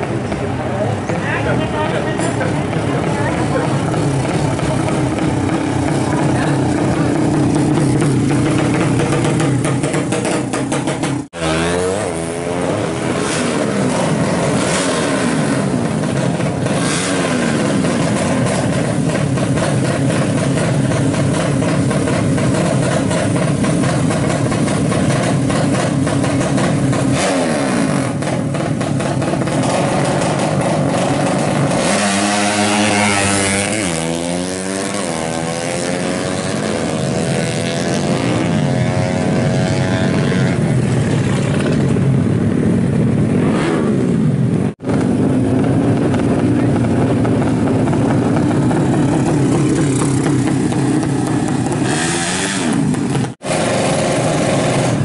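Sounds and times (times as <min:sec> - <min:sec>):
motorbike accelerating through gears: 0:00.0 - 0:55.0
motorbike engines revving: 0:00.0 - 0:55.0.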